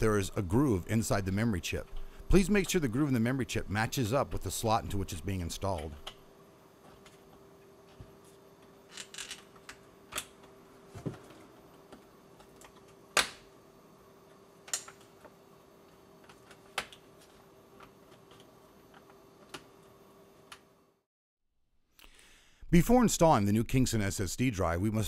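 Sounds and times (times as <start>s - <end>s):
faint steady hum: 0.0s - 21.1s, 21.9s - 25.0s.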